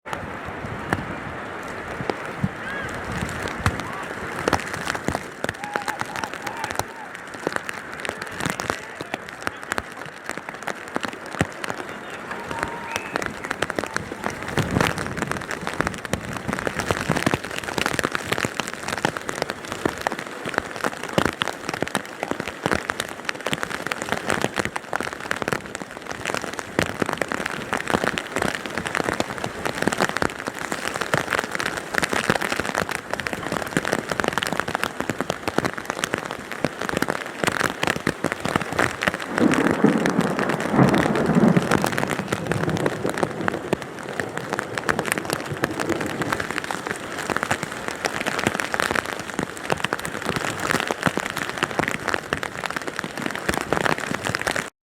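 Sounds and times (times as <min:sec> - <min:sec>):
hailstones pelting down: 0:00.1 - 0:54.7.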